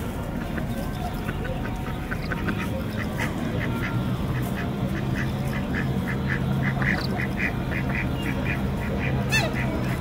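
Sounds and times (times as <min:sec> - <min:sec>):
ducks calling: 0:00.3 - 0:10.0.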